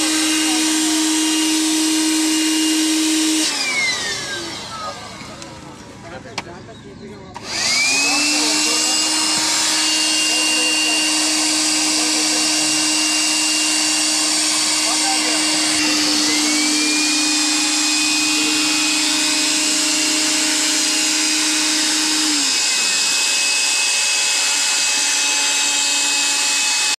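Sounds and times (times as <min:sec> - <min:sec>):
electric air pump running: 0:00.0 - 0:06.1, 0:07.4 - 0:27.0.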